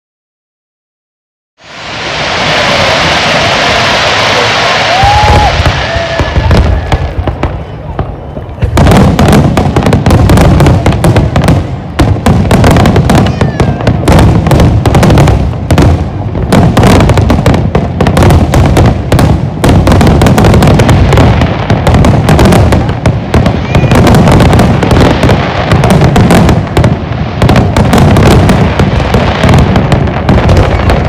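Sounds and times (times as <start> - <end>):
fireworks bursts and crackle: 1.6 - 31.0.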